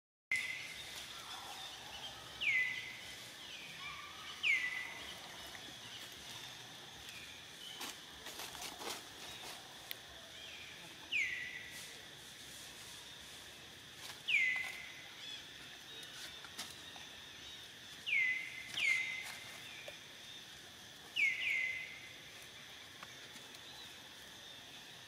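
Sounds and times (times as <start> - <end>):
steady high hiss: 0.3 - 25.0.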